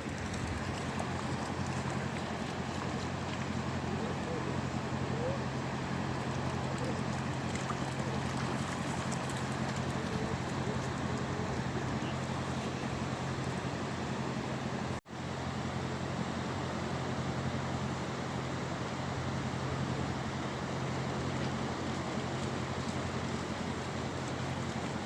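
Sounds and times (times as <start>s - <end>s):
constant low hum: 0.0s - 25.0s
outdoor noise wash: 0.0s - 25.0s.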